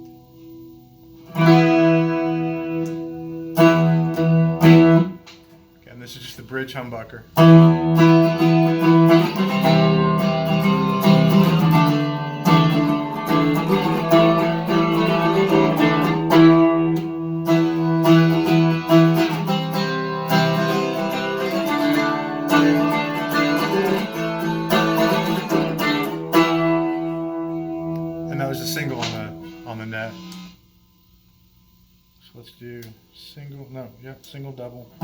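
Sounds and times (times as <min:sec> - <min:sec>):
electric guitar strummed chords: 0:00.0 - 0:05.7, 0:07.2 - 0:30.4.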